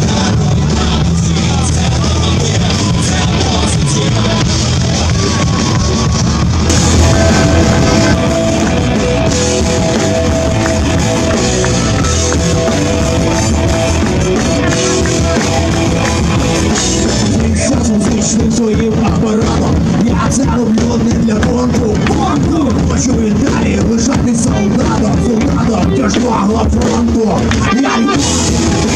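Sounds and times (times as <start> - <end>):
drum kit: 0.0 - 28.9
electric guitar: 0.0 - 28.9.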